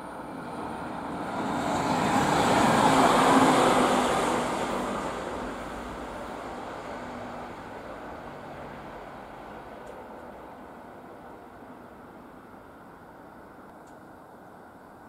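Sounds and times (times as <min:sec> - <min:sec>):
electric train passing: 0:00.0 - 0:13.6.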